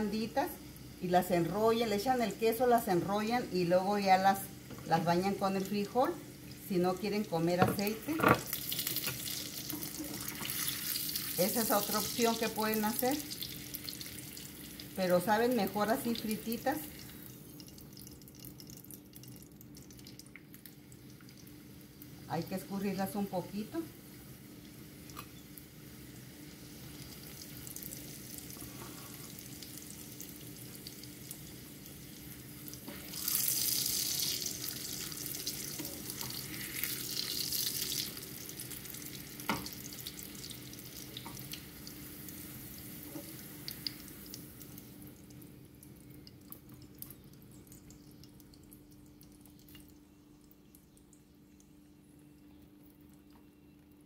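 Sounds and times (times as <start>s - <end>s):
tortillas sizzling in oil: 0.0s - 50.0s.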